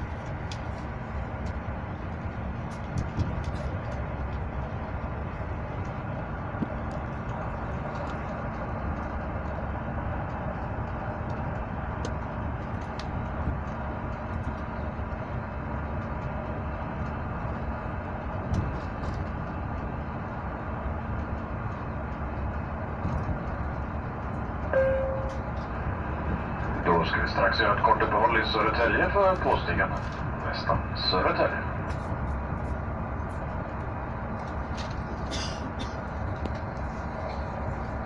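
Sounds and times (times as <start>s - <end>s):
train rumbling inside carriage: 0.0s - 38.0s.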